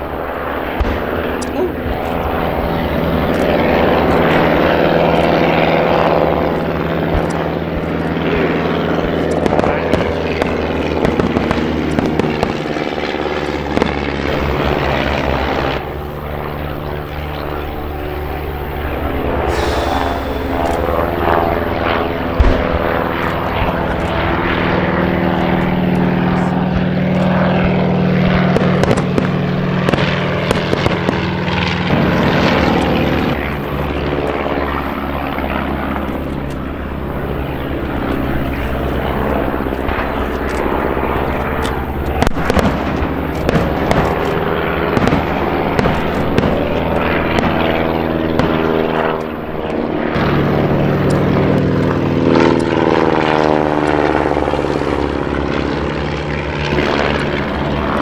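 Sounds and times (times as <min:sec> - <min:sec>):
propeller aircraft engines droning: 0:00.0 - 0:58.0
sharp cracks: 0:00.1 - 0:16.1, 0:18.9 - 0:53.1.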